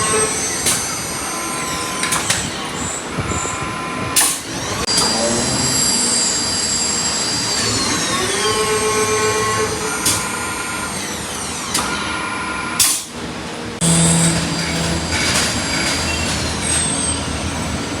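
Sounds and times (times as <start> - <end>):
whining machine tones: 0.0 - 12.8, 13.7 - 18.0
lathe machine running: 0.0 - 18.0.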